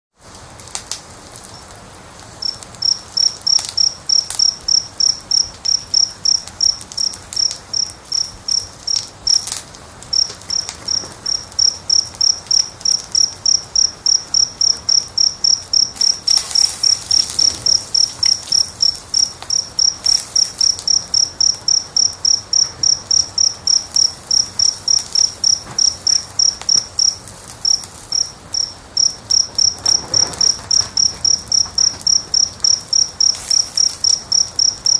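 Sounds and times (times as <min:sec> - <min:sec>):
wood fire hissing and crackling: 0:00.1 - 0:34.9
insect chirping: 0:02.4 - 0:34.9.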